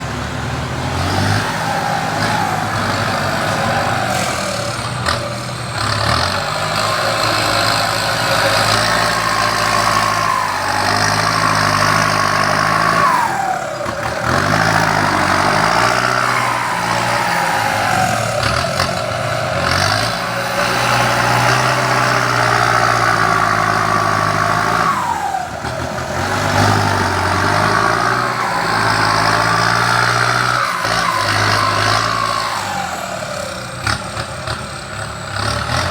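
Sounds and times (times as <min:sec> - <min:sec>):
heavy machinery engines running: 0:00.0 - 0:35.9
falling whine: 0:01.3 - 0:33.8.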